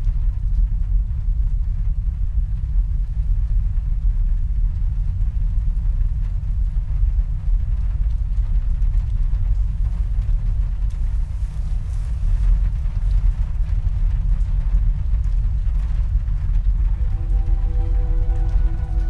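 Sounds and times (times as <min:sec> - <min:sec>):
deep rumble: 0:00.0 - 0:19.0.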